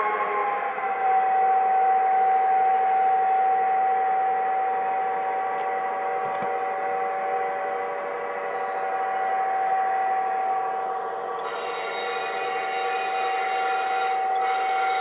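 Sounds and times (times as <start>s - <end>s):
model train high-pitched whine: 0.0s - 15.0s.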